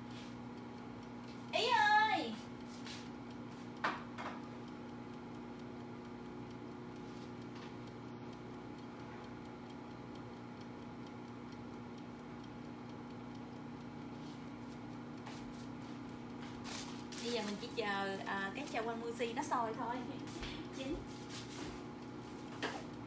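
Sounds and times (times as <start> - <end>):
kitchen timer ticking: 0.0 - 23.0.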